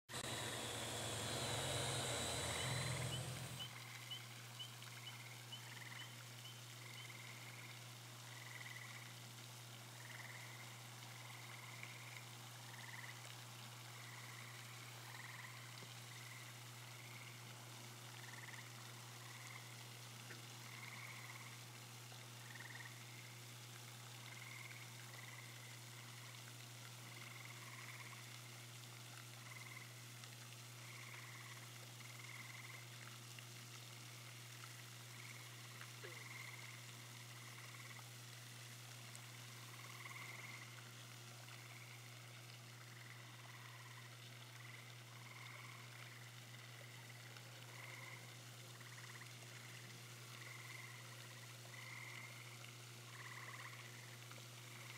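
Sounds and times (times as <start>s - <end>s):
faint frog croaks: 0.2s - 9.2s, 9.9s - 17.5s, 18.1s - 21.7s, 22.3s - 23.5s, 24.2s - 28.6s, 29.3s - 30.2s, 30.8s - 33.1s, 34.6s - 38.2s, 39.5s - 54.9s.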